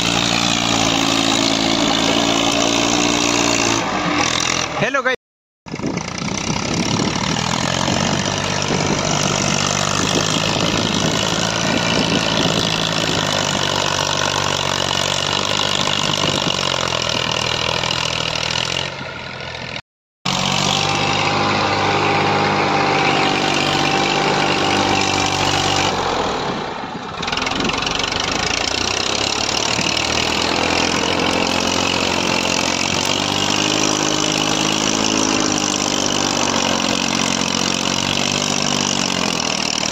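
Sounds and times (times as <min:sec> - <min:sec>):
tractor diesel engine running: 0:00.0 - 0:05.0, 0:05.7 - 0:39.9.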